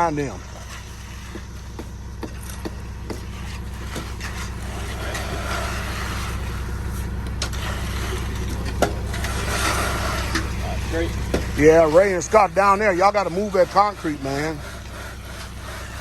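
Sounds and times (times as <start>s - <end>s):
engine humming: 0.0s - 16.0s
hand tools working wet concrete: 0.0s - 16.0s.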